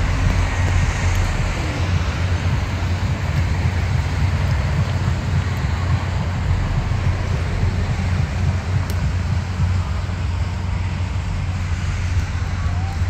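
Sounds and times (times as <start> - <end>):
road traffic passing: 0.0 - 13.0
wind rumble on microphone: 0.0 - 13.0.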